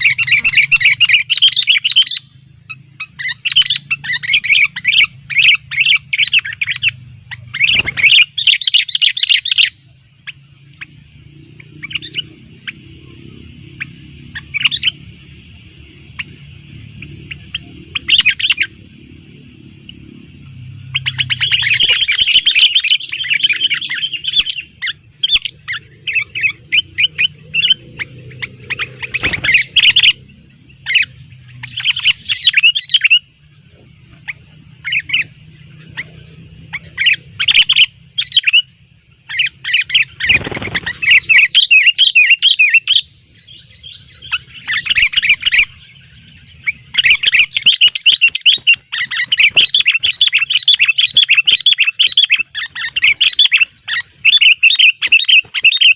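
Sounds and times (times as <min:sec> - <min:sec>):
bulbuls chattering chirps: 0:00.0 - 0:55.9.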